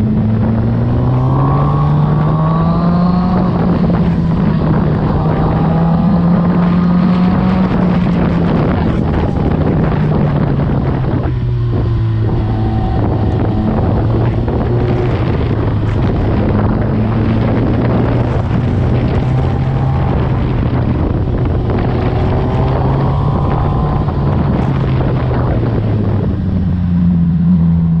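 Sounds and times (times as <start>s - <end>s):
heavy wind noise: 0.0s - 28.0s
motorcycle engine revving: 0.0s - 28.0s.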